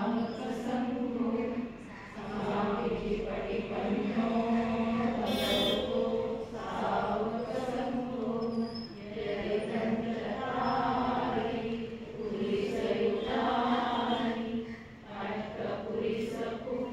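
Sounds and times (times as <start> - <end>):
group chanting in unison: 0.0 - 16.9.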